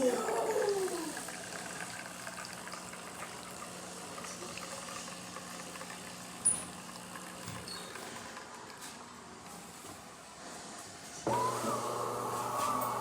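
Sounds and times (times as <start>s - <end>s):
espresso machine pump humming: 0.0s - 8.8s, 11.2s - 13.0s.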